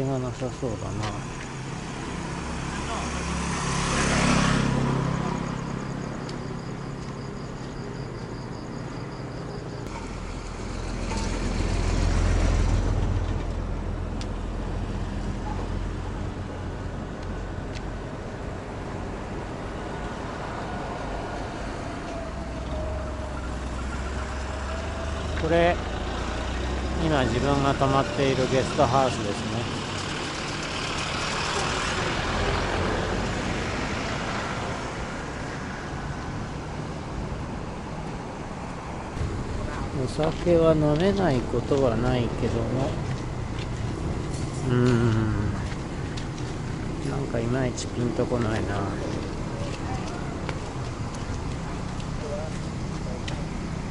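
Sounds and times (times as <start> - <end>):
vehicle engine rumble passing: 0.0 - 53.9.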